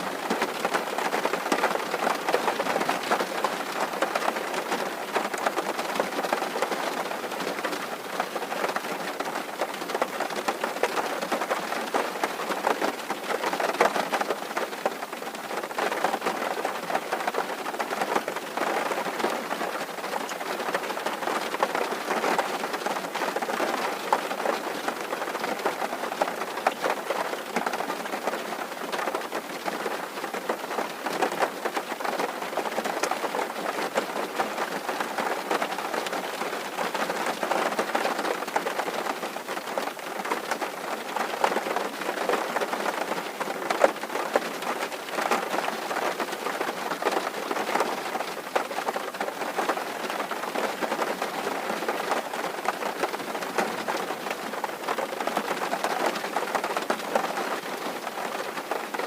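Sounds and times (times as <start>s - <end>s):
rain drumming on a tin roof: 0.0s - 59.0s.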